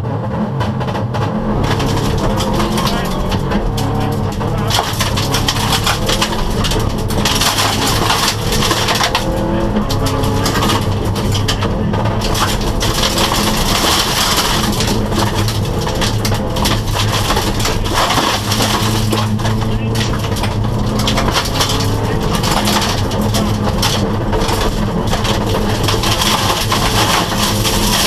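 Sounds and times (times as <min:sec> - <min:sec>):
rally car engine revving: 0:00.0 - 0:28.0
gravel clattering against car underbody: 0:00.6 - 0:28.0.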